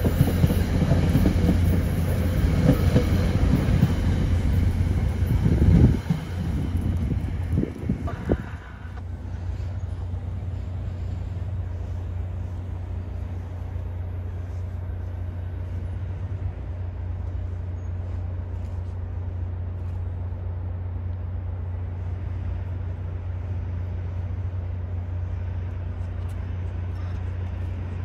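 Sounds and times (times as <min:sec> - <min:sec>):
diesel train engine running: 0:00.0 - 0:28.0.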